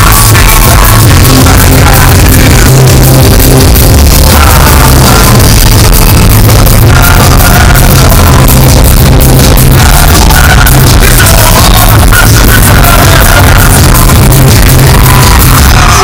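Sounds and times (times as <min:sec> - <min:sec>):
heavy steady bass: 0:00.0 - 0:16.0
live band playing electronic rock: 0:00.0 - 0:16.0.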